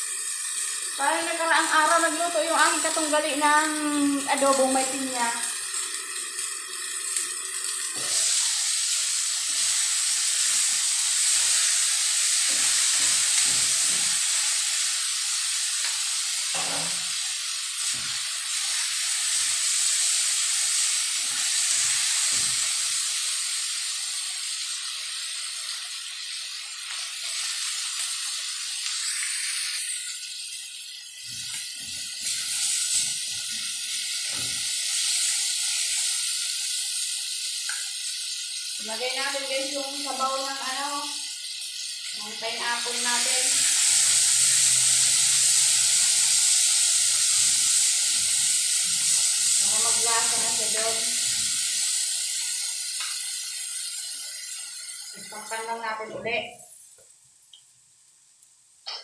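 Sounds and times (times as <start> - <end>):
chicken sizzling in a wok: 0.0 - 59.0.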